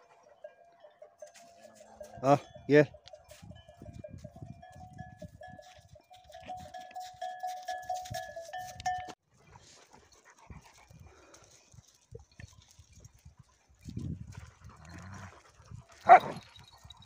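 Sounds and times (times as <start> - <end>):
metal sheep bells clinking: 0.0 - 9.2, 11.4 - 14.1, 14.9 - 17.0.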